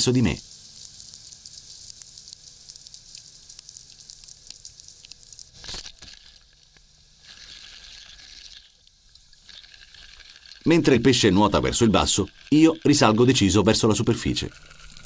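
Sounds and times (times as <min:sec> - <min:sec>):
underwater clicks and sizzling: 0:00.0 - 0:15.0.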